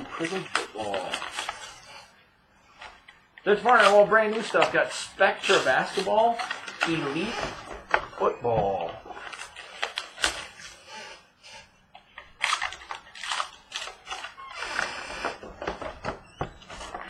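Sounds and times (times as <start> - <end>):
packaging rustling: 0.0 - 11.0, 12.0 - 17.0.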